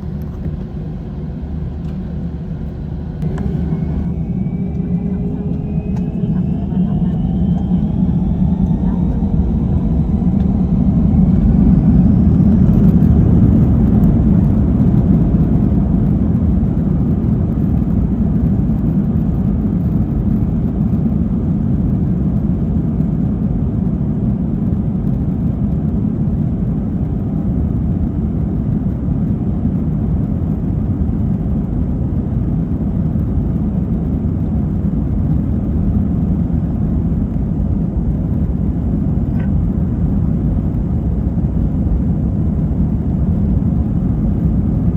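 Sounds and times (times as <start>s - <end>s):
jet engines rumbling in cabin: 0.0s - 44.9s.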